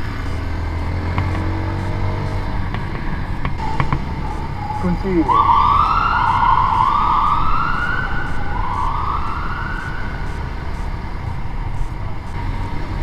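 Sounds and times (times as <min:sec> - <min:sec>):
siren wailing: 0:00.0 - 0:12.6
road and wind rumble: 0:00.0 - 0:13.0.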